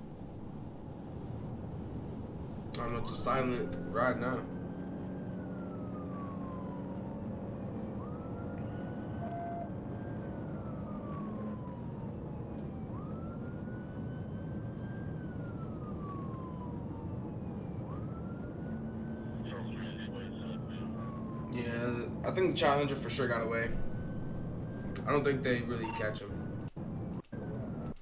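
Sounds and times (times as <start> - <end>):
police siren wailing: 0.0 - 28.0
road and engine rumble: 0.0 - 28.0.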